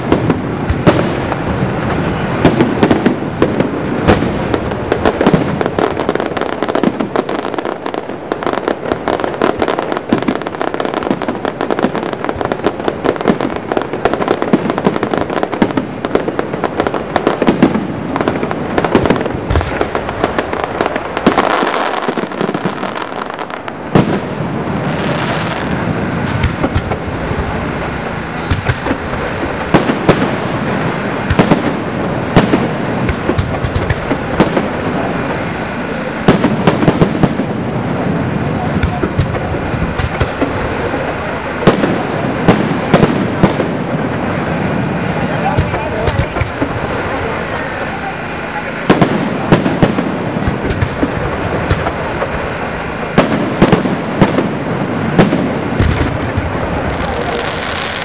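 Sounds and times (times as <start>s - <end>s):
crackling rumble: 0.0s - 58.0s
fireworks bangs: 0.0s - 58.0s.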